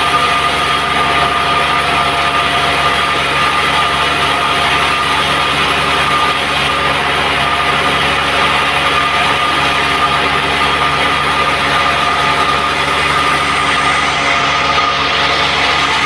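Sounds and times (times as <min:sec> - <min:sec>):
band sawmill motor droning: 0:00.0 - 0:16.0
high whine: 0:00.0 - 0:16.0.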